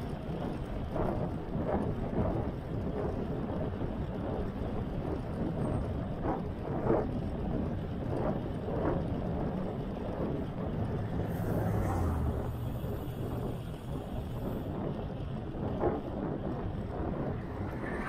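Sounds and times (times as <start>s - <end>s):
low road rumble: 0.0s - 18.0s
wind rushing over microphone: 0.0s - 18.0s.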